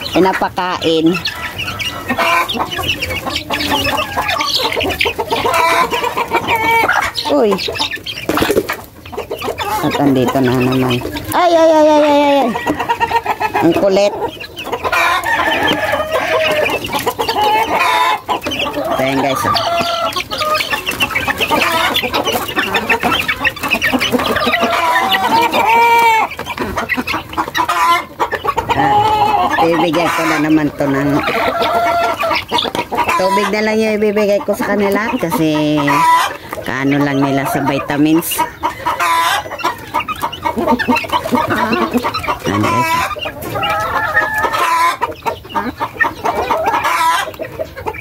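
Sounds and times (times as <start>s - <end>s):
young chickens calling: 0.0s - 48.0s.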